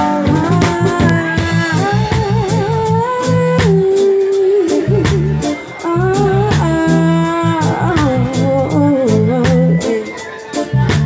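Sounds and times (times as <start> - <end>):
bass notes: 0.0 - 10.0, 10.6 - 11.0
live band music: 0.0 - 11.0
steady drum beat: 0.0 - 11.0
woman singing: 0.0 - 11.0.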